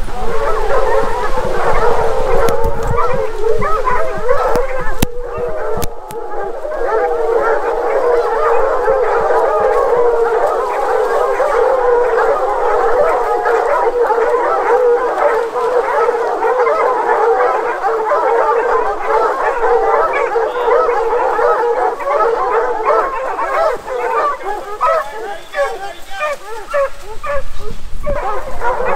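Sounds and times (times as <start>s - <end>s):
hounds baying: 0.0s - 28.9s.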